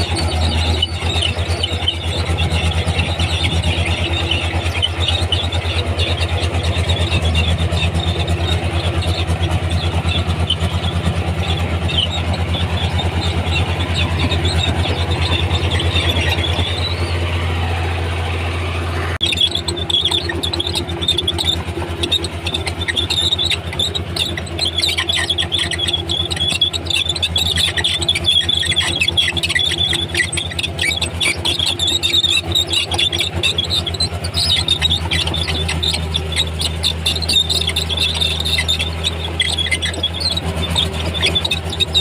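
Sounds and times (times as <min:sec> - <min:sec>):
bulldozer diesel engine droning: 0:00.0 - 0:42.0
steel tracks squealing: 0:00.0 - 0:42.0.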